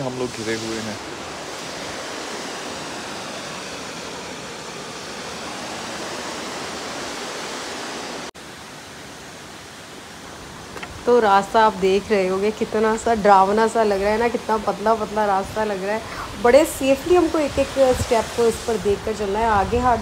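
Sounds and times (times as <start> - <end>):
fast-flowing stream water: 0.0 - 20.0.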